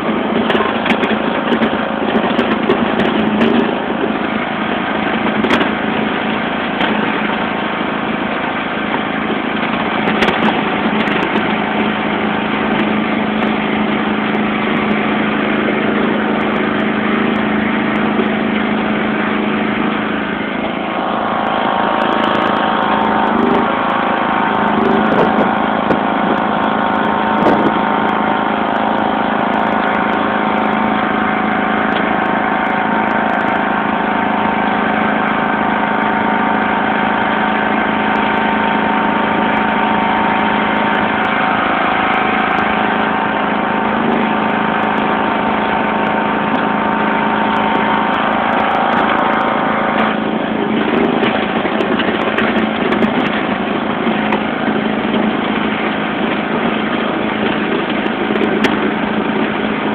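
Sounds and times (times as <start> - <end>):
blade plowing snow: 0.0 - 59.9
lawn tractor engine running: 0.0 - 59.9.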